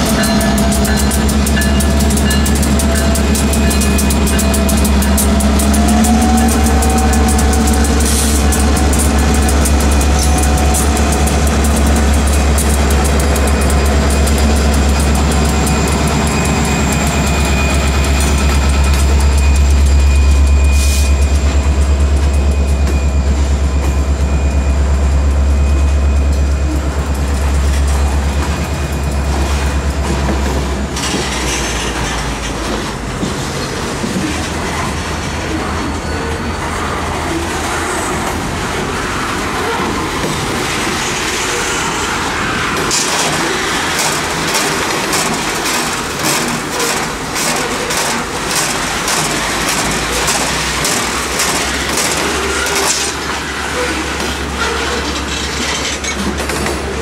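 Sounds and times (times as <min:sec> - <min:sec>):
diesel locomotive engine drone: 0:00.0 - 0:57.0
train wheels on rails: 0:00.0 - 0:57.0.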